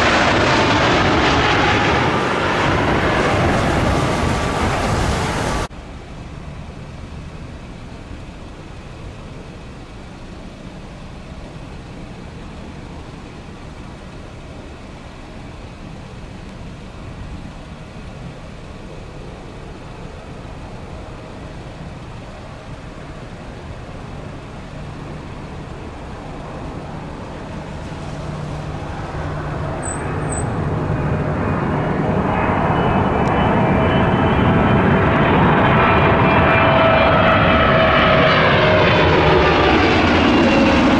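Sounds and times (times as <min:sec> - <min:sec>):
jet engines whine: 0:00.0 - 0:40.9.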